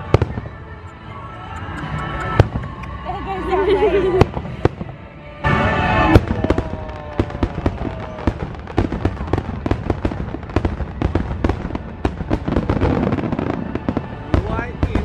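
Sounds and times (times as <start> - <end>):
fireworks popping and banging: 1.6 - 3.0, 4.1 - 15.0.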